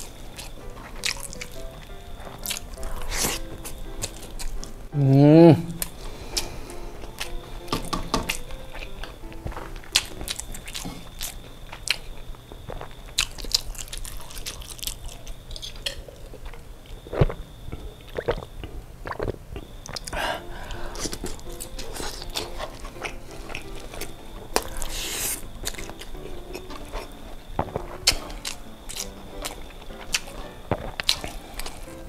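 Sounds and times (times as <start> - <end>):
chewing and mouth noises: 0.0 - 4.8, 5.7 - 32.0.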